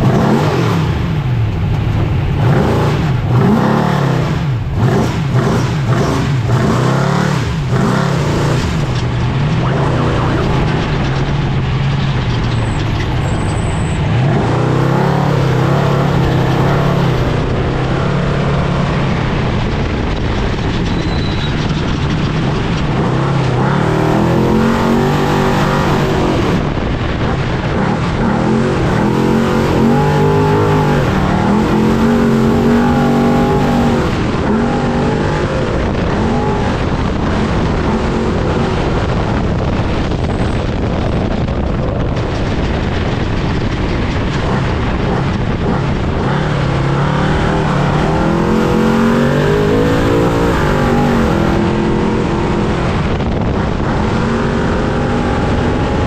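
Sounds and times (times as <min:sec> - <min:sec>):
rattle of truck driving off-road: 0:00.0 - 0:56.0
truck engine running hard: 0:00.0 - 0:56.0.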